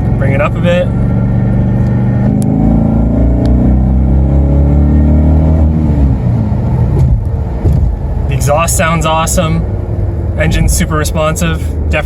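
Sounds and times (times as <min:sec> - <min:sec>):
car engine accelerating: 0:00.0 - 0:11.3.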